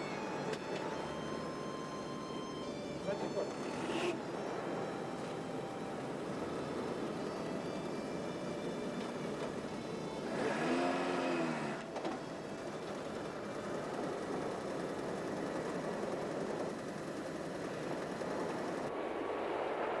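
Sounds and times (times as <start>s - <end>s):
street noise hiss: 0.0s - 20.0s
car engine running: 1.9s - 18.9s.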